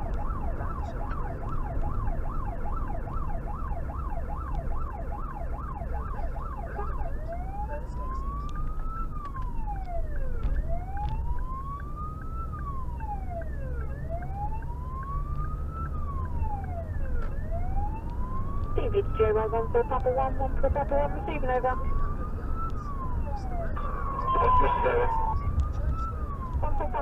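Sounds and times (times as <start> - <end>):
electronic siren yelp and wail: 0.0 - 27.0
engine and road noise: 0.0 - 27.0.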